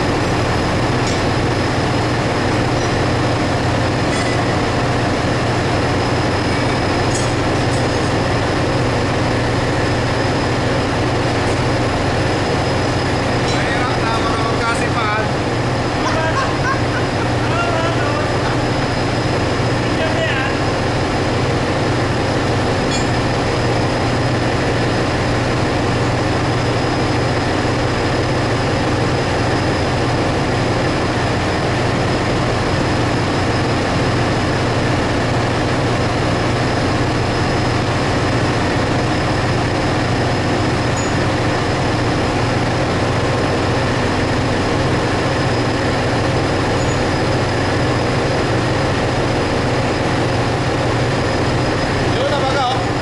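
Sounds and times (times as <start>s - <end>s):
engine room machinery drone: 0.0s - 53.0s
high machinery whine: 0.0s - 53.0s.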